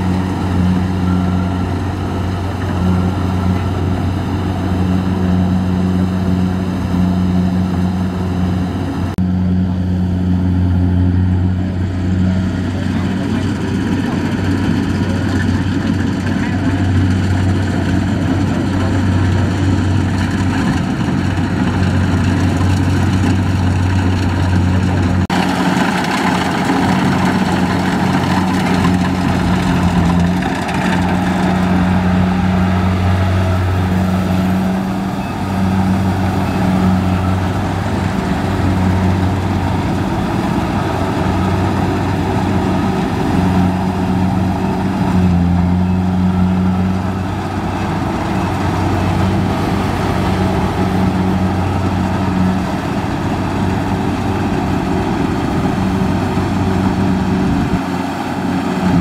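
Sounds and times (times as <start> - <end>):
cutting and threshing machinery: 0.0 - 59.0
diesel engine running under load: 0.0 - 59.0.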